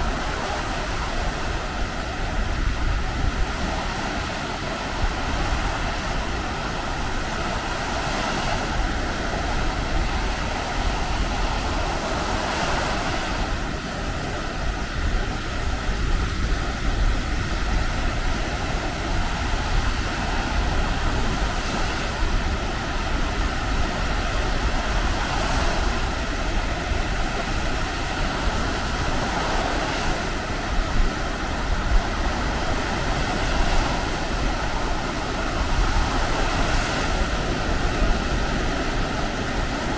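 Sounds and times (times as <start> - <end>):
surf breaking on beach: 0.0 - 39.9
wind rumbling on microphone: 0.0 - 39.9.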